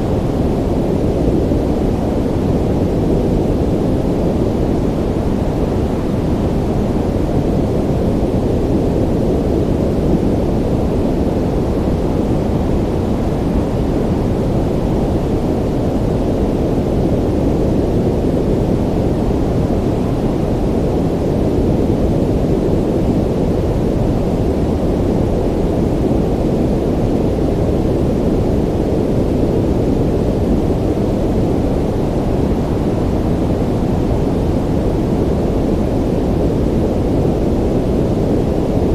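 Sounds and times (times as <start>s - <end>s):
low rumble of the sea: 0.0s - 38.9s.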